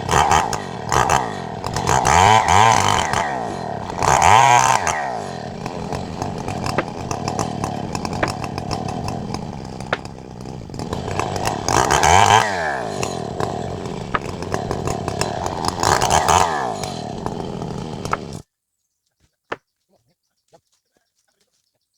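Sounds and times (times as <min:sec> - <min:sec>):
chainsaw revving: 0:00.0 - 0:18.4.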